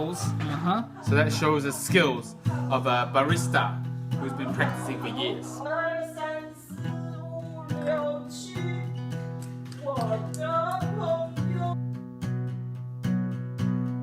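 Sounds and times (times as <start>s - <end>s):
person singing: 0.0s - 11.8s
strummed acoustic guitar: 0.0s - 14.0s.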